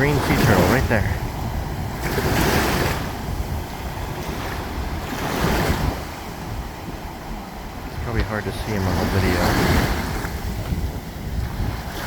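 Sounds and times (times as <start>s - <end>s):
waves washing onto rocky shore: 0.0s - 12.0s
wind buffeting microphone: 0.0s - 12.0s.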